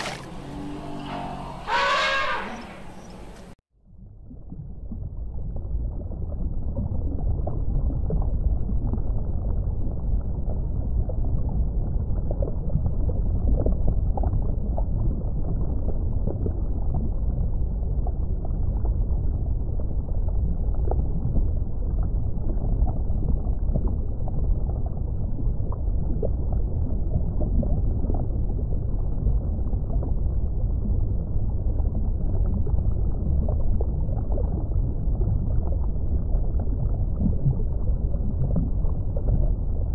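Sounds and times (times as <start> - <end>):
underwater low rumble: 0.0 - 39.9.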